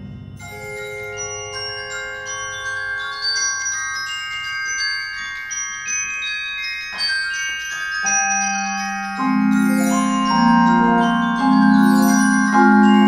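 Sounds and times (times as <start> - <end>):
mallet percussion ensemble: 0.0 - 13.0.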